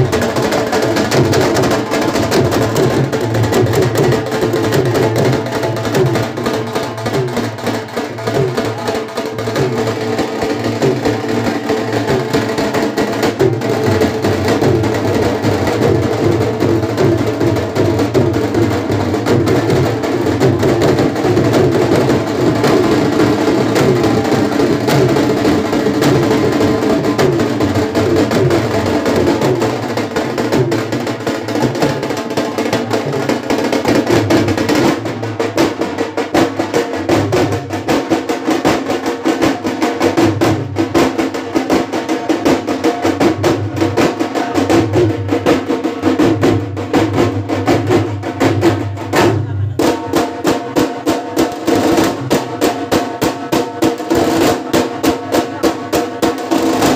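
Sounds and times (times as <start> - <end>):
dhol drums beaten with sticks: 0.0 - 56.9.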